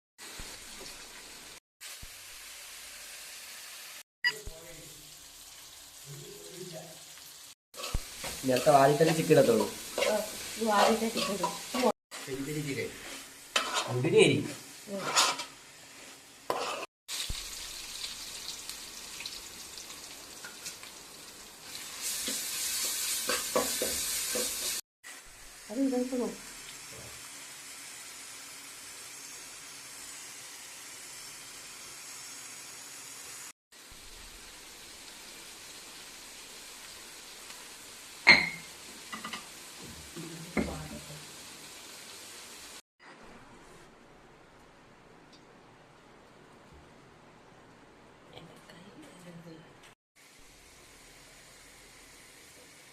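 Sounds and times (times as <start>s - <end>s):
food sizzling in hot oil: 0.2s - 42.8s, 50.2s - 52.9s.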